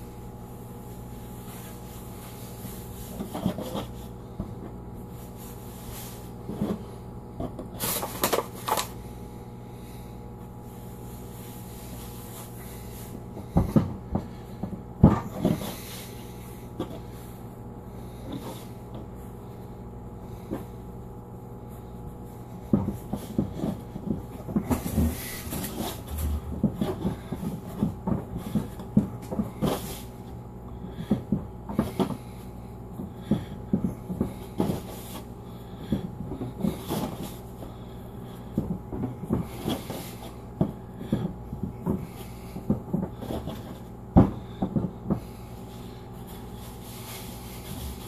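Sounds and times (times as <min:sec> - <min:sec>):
dough kneading thumps and pats: 0:00.0 - 0:09.2, 0:09.8 - 0:48.0.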